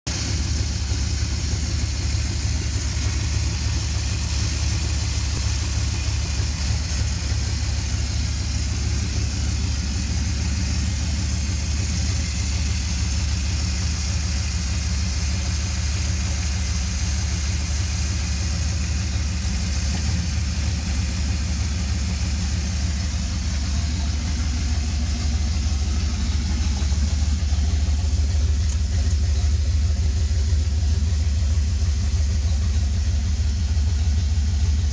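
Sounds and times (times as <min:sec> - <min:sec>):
engine idling deep rumble: 0:00.0 - 0:34.9.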